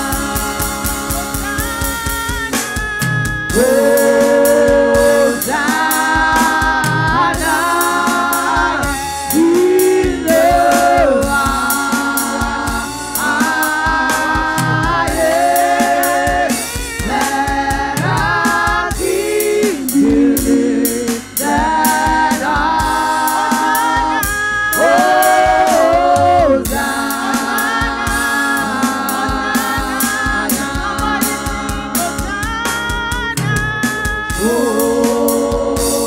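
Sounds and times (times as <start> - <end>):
drum beat: 0.0 - 36.0
women's group singing gospel: 0.0 - 36.0.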